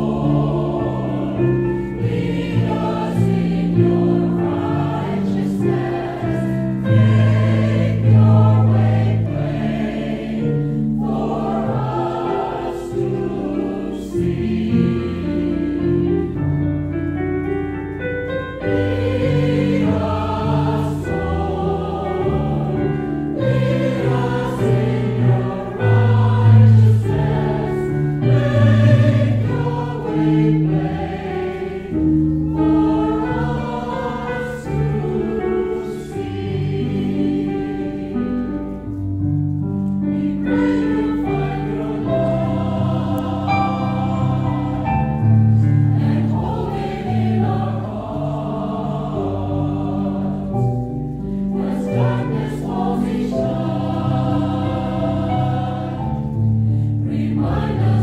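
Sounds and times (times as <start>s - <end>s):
mixed choir singing: 0.0s - 17.0s, 18.1s - 38.9s, 40.0s - 58.0s.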